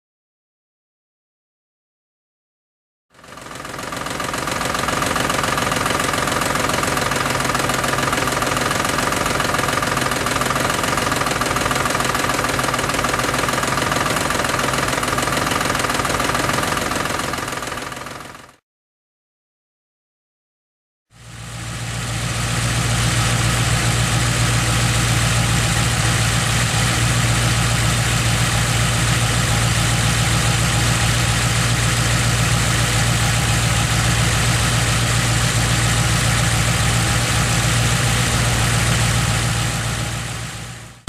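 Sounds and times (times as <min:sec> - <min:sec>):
car engine idling: 0:03.2 - 0:18.5, 0:21.2 - 0:41.0.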